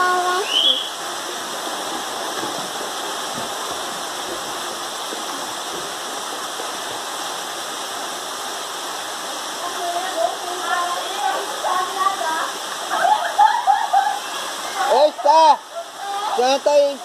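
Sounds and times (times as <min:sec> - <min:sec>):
waterfall pouring into pool: 0:00.0 - 0:17.0.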